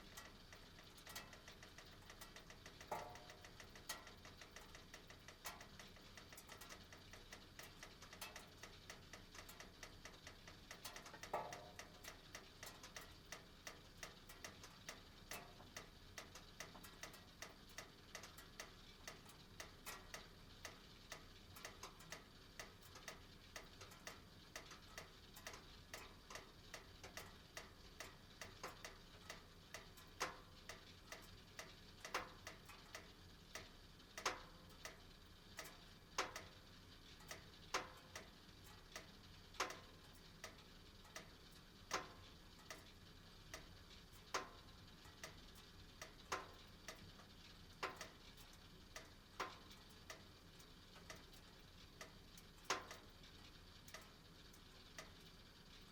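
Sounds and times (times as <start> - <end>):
metal ticking and clicking: 0.0 - 55.3
faint burner flame: 0.0 - 55.9.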